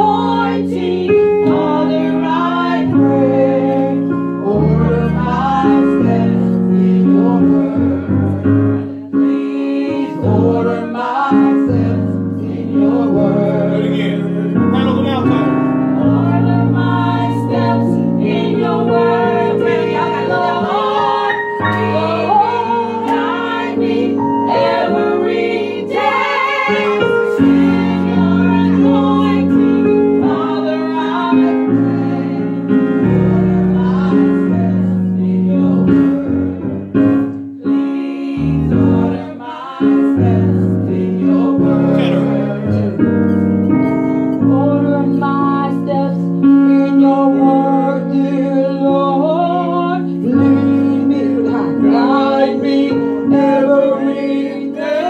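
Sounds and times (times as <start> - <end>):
sustained keyboard chords: 0.0 - 55.0
vocal group singing in harmony: 0.0 - 55.0.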